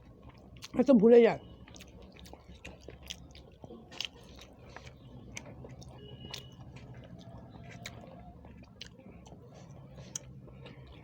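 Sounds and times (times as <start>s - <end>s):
person chewing food: 0.0s - 0.9s, 1.6s - 11.0s.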